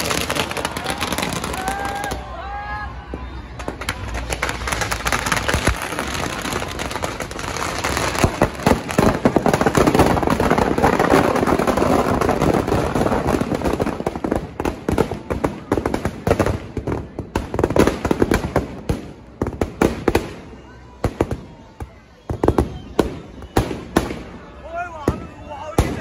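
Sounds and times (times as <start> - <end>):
firecrackers crackling and banging: 0.0 - 26.0.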